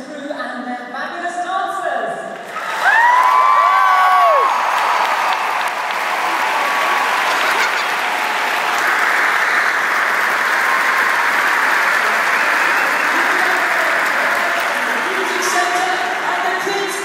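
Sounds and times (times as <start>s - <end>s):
audience applauding: 2.4s - 17.0s.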